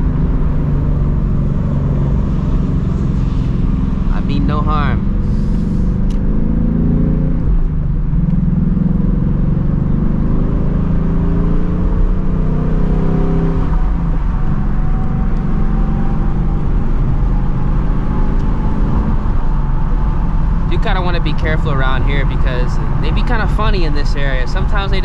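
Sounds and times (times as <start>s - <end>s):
car engine cruising: 0.0s - 25.0s.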